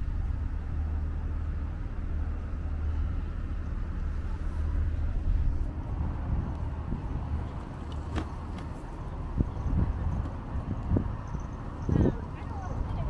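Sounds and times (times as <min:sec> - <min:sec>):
motor vehicle rumbling: 0:00.0 - 0:13.0.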